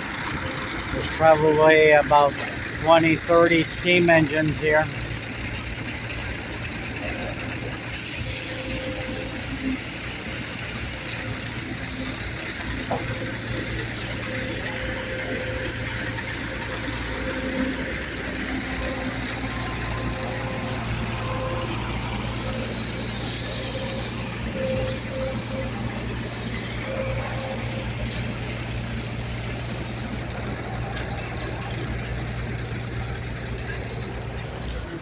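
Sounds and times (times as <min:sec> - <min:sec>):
engines humming: 0:00.0 - 0:35.0.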